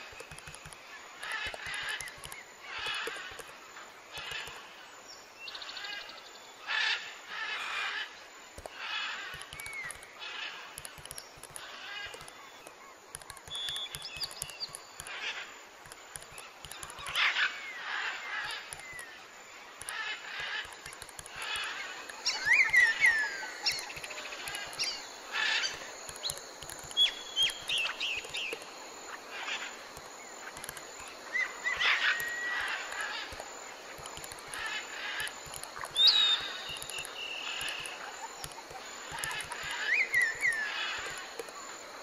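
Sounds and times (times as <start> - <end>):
birds chirping and calling: 0.0 - 4.8, 5.5 - 41.8
steady outdoor hiss: 0.0 - 42.0.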